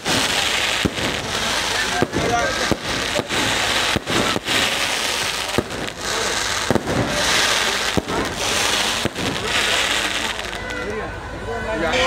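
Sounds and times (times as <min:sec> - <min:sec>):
firework bangs: 0:00.0 - 0:11.0
fireworks crackling and hissing: 0:00.0 - 0:11.3.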